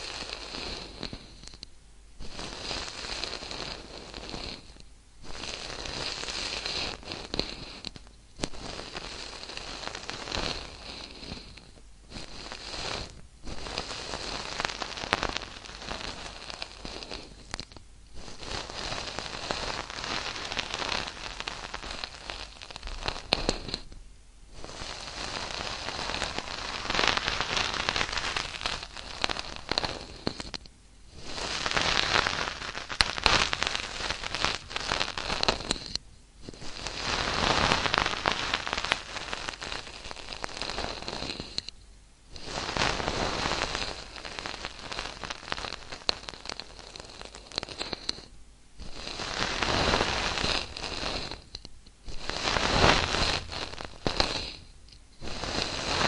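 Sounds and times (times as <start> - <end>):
dense crackling noise: 0.0 - 56.0.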